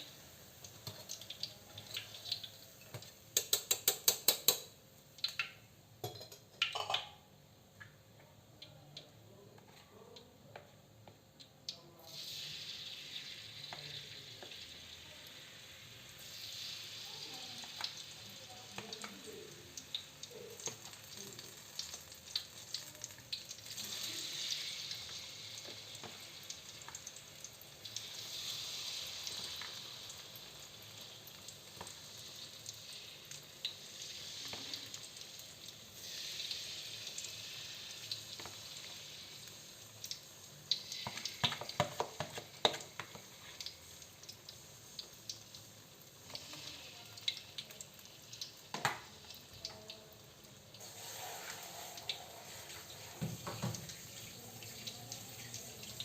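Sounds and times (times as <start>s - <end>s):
food sizzling in hot oil: 0.0s - 8.1s, 11.7s - 56.0s.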